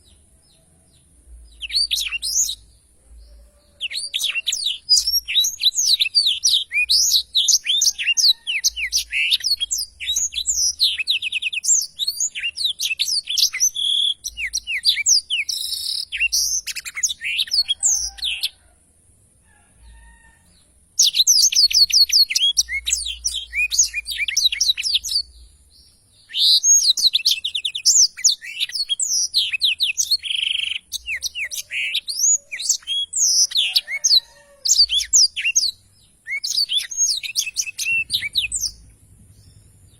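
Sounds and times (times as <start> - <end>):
canary singing trills: 1.3 - 18.7, 19.9 - 39.9.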